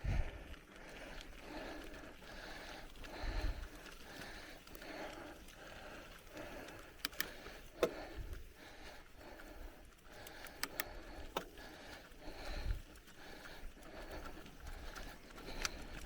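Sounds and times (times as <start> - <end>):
bicycle tyres on dirt trail: 0.0 - 16.0
bike clicking and rattling: 0.0 - 16.0.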